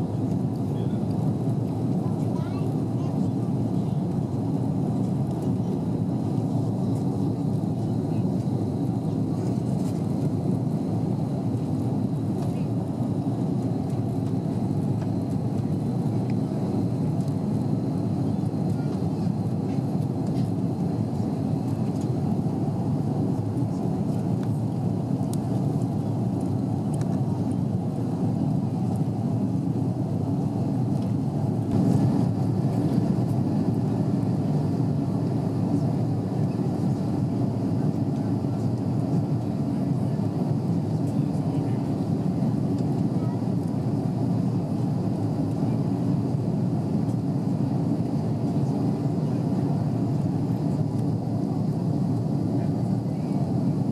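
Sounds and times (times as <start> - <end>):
jet engine and airflow in cabin: 0.0 - 53.9.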